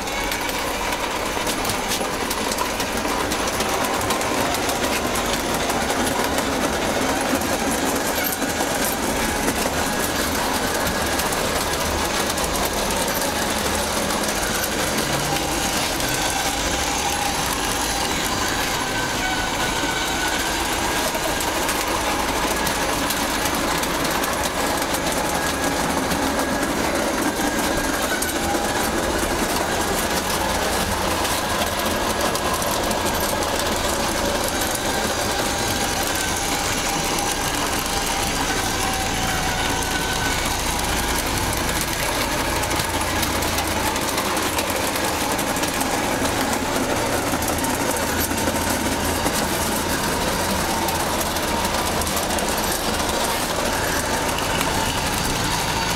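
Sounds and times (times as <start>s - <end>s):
model train running on track: 0.0s - 55.9s.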